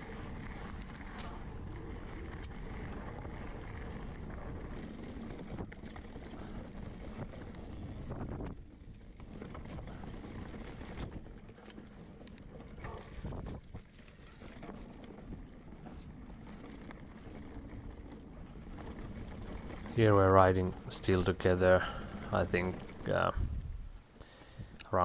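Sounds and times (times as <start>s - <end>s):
wind buffeting microphone: 0.0s - 24.8s
bike clicks and rattles: 0.0s - 25.0s.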